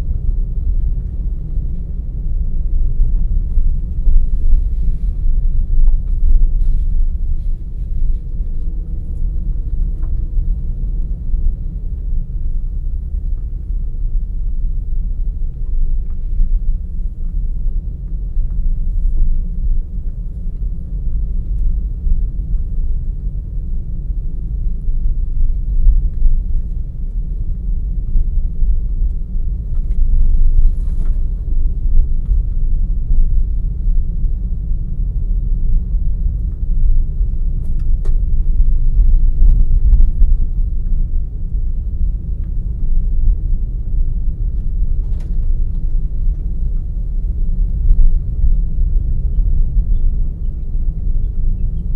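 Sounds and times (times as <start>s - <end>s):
car engine and tyre rumble: 0.0s - 51.9s.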